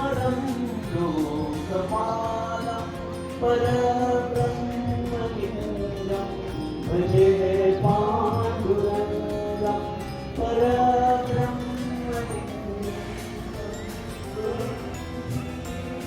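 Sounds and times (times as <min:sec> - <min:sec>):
mantra chanting over music: 0:00.0 - 0:15.4.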